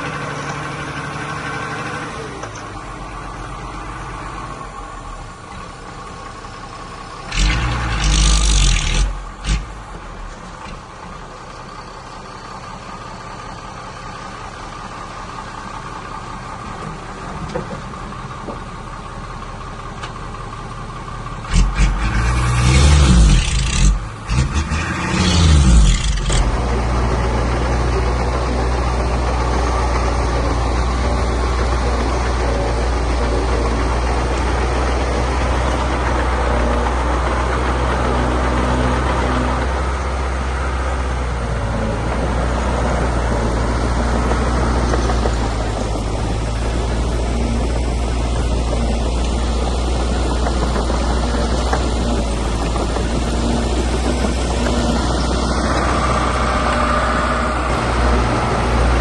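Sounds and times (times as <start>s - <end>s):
diesel engine revving: 0.0s - 19.6s, 20.2s - 59.0s.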